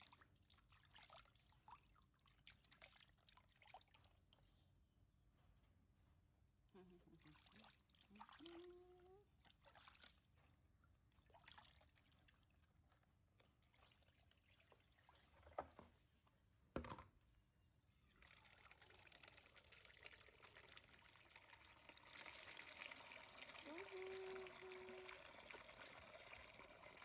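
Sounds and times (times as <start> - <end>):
faint trickling water: 0.0 - 5.5, 6.5 - 16.3, 17.8 - 27.0.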